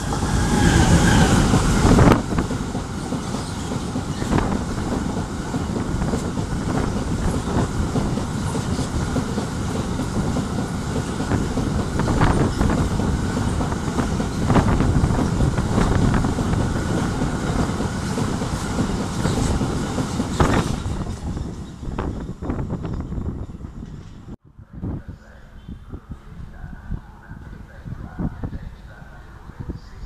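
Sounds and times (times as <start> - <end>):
train rolling rumble: 0.0 - 30.0.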